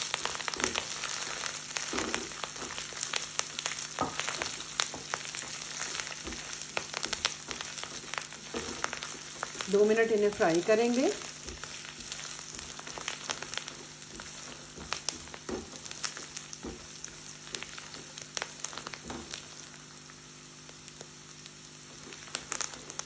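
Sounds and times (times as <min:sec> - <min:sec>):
curry leaves popping and crackling: 0:00.0 - 0:23.0
onions and spices sizzling in oil: 0:00.0 - 0:23.0
spatula stirring and scraping: 0:00.2 - 0:19.6.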